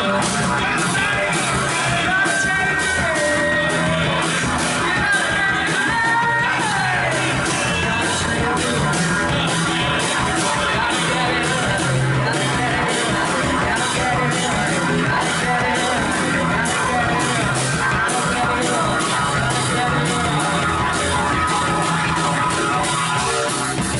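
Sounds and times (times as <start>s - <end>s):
rock band playing live: 0.0s - 23.9s.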